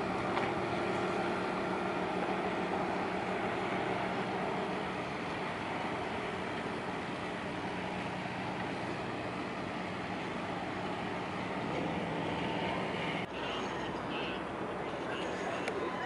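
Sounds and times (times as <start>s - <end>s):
boat diesel engine running: 0.0s - 16.0s.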